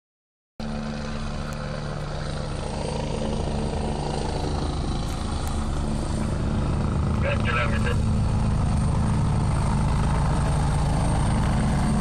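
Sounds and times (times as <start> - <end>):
helicopter engine: 0.6 - 12.0
helicopter rotor beating: 0.6 - 12.0.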